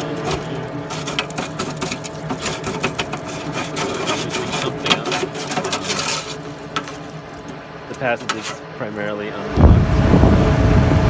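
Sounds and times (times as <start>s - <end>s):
stick scraping inside metal pipe: 0.0s - 9.2s
steady hum: 0.0s - 11.0s.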